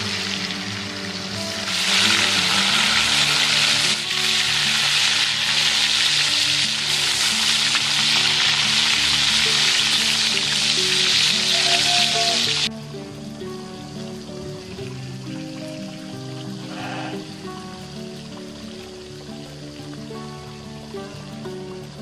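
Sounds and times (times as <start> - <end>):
tofu deep-frying in oil: 0.0 - 22.0.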